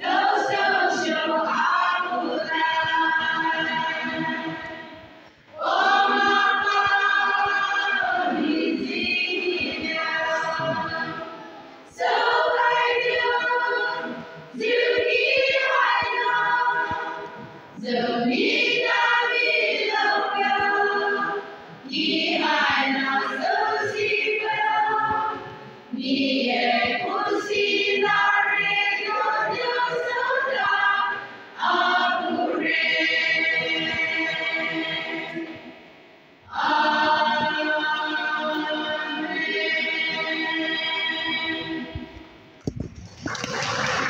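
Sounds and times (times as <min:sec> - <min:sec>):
women's choir singing: 0:00.0 - 0:42.5.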